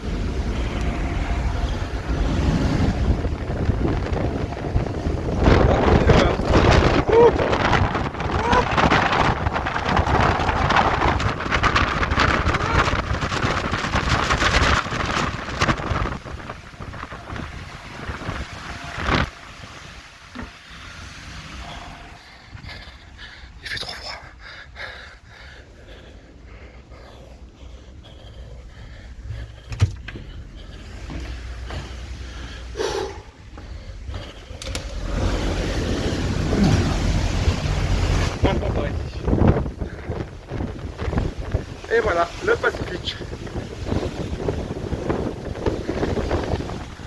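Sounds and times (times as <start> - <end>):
wind buffeting microphone: 0.0 - 23.6, 24.8 - 47.0
low rumble of ship engines: 0.0 - 47.0.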